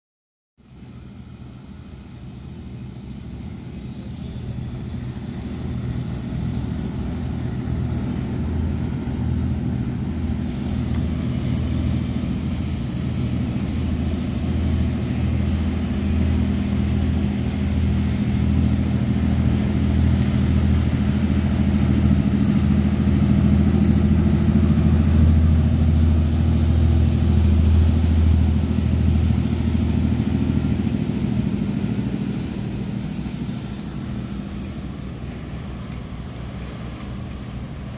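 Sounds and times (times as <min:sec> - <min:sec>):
boat engines droning: 0:00.6 - 0:37.9.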